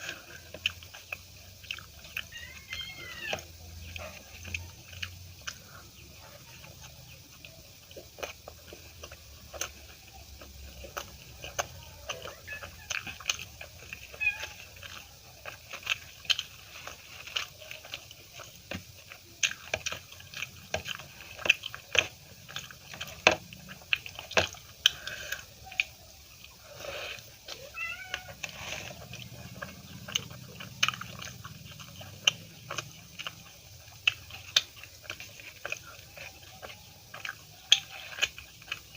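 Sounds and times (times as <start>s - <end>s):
chewing and mouth sounds: 0.0s - 38.9s.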